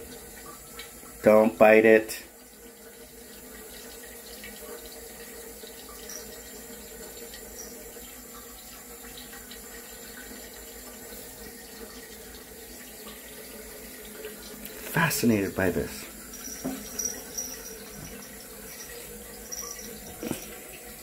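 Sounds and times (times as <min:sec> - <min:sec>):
water running in sink: 0:00.0 - 0:21.0.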